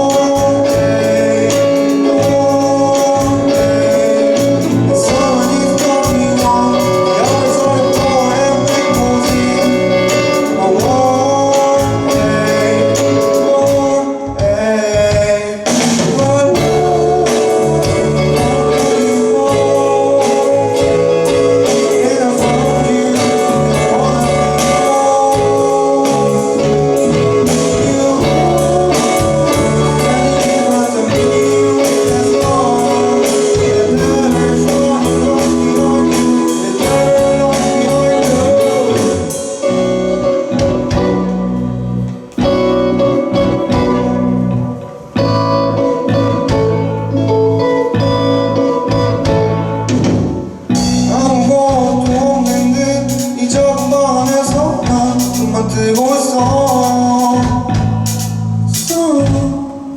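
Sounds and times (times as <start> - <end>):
electric guitar: 0.0 - 59.9
person singing: 0.0 - 59.9
rock band playing live: 0.0 - 59.9.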